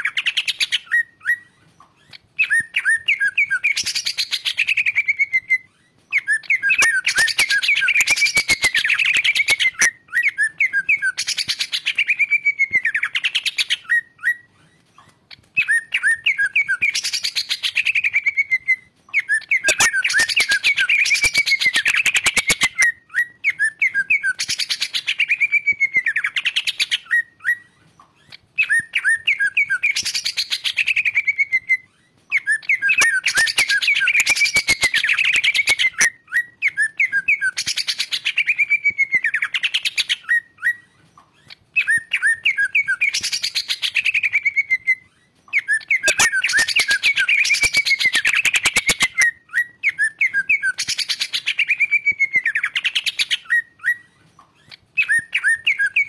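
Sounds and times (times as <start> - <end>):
bird singing varied phrases: 0.0 - 56.0.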